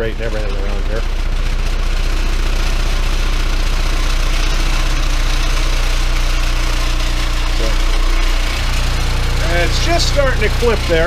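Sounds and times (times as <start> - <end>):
subwoofer low sine tone hum: 0.0 - 11.0.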